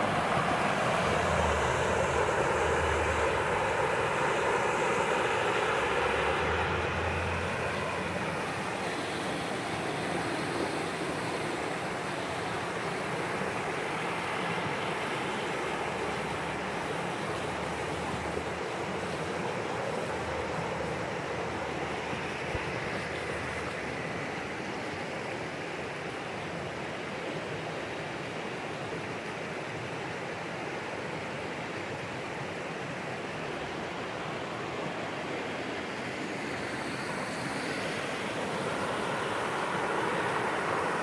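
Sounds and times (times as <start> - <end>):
stream rushing over rapids: 0.0 - 41.0.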